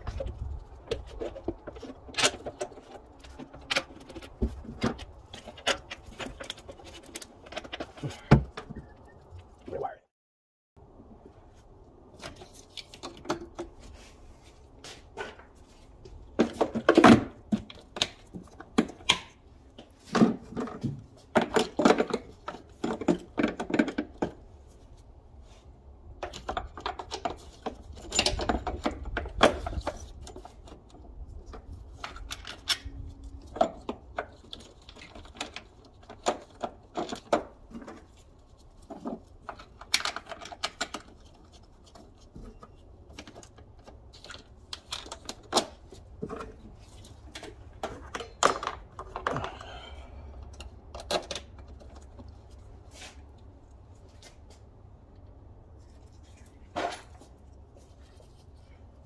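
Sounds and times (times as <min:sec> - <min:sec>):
hands rattling plastic parts and tools: 0:00.0 - 0:09.5, 0:15.1 - 0:24.6, 0:26.2 - 0:59.0.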